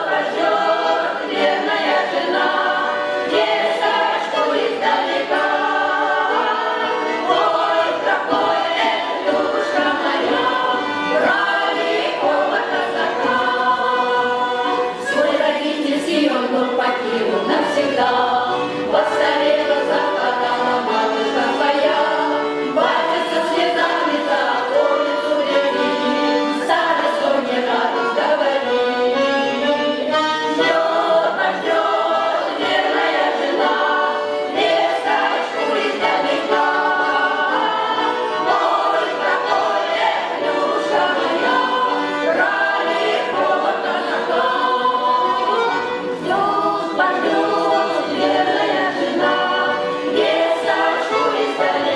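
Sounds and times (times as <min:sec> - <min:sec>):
choir singing folk song: 0:00.0 - 0:51.9.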